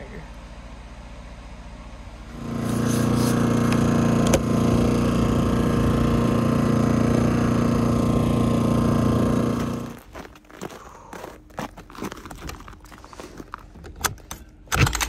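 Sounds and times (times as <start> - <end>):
generator engine running: 0.0 - 14.7.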